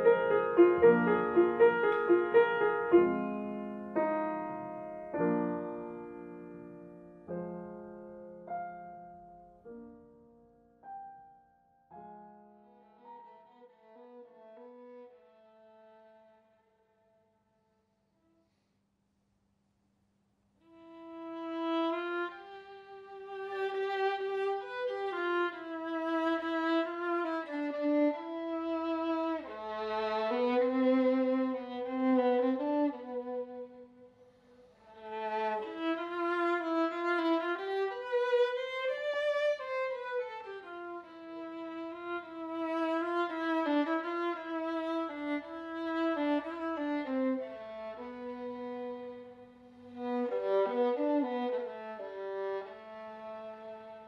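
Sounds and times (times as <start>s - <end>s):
solo violin melody: 0.0s - 10.1s, 11.9s - 17.1s, 20.6s - 54.0s.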